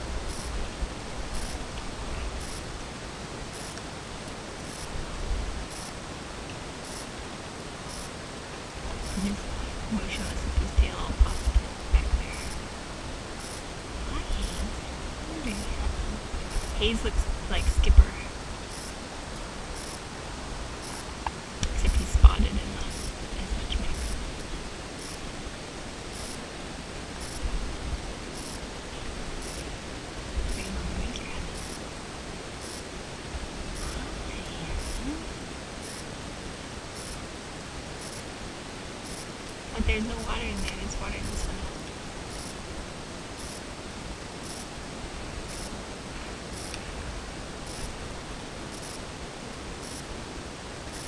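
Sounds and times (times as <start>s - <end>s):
background hiss: 0.0s - 51.0s
outdoor background noise: 0.0s - 51.0s.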